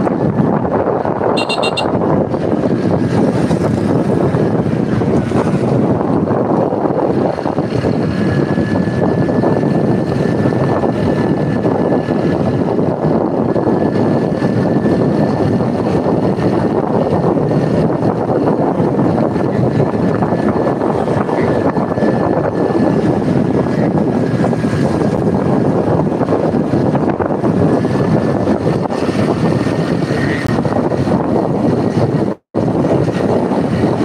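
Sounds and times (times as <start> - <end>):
wind rushing on microphone: 0.0 - 34.0.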